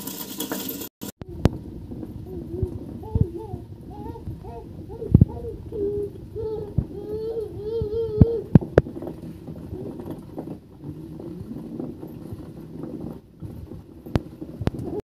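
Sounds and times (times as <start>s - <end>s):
stone grinding mill rumbling: 0.0s - 7.0s, 8.4s - 15.0s.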